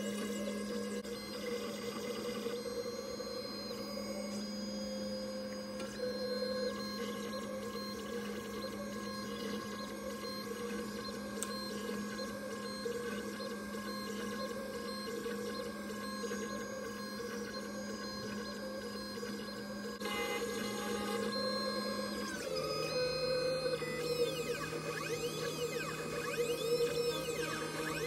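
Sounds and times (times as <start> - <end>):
milling machine motor whine: 0.0 - 28.0.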